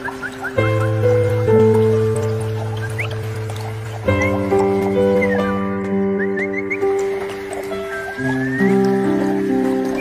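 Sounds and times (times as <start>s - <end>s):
background music held notes: 0.0s - 10.0s.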